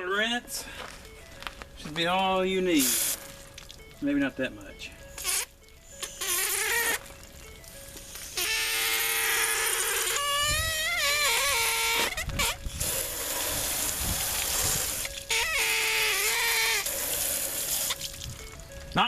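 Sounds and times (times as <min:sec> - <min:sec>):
wavering high-pitched tone: 0:00.0 - 0:12.8, 0:14.8 - 0:19.0
garden hose spraying water: 0:02.4 - 0:03.9, 0:04.6 - 0:19.0.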